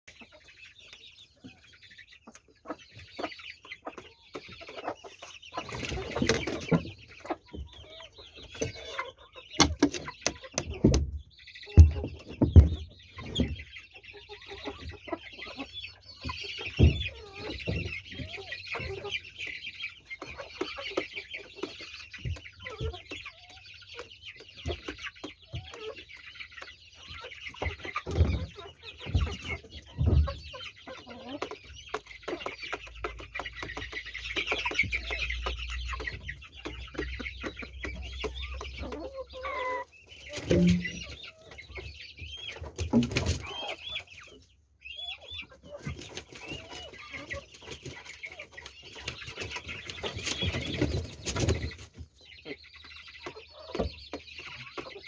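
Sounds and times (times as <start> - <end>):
chickens clucking: 0.1 - 55.0.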